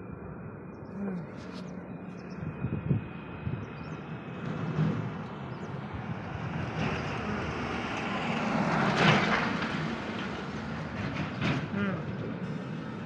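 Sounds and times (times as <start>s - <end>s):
vehicle passing on road: 1.1s - 13.0s.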